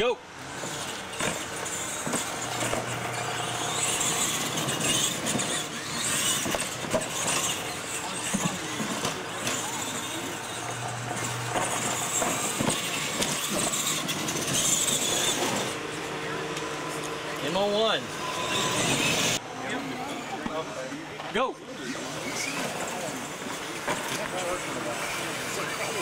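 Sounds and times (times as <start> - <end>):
tyres on dirt: 0.0 - 19.4, 21.7 - 26.0
toy truck motors running: 0.0 - 26.0.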